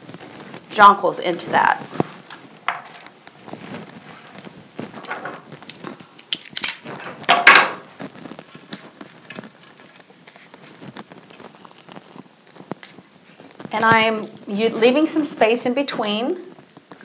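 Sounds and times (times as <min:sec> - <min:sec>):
plant material rustling: 0:00.0 - 0:06.2, 0:06.8 - 0:17.0.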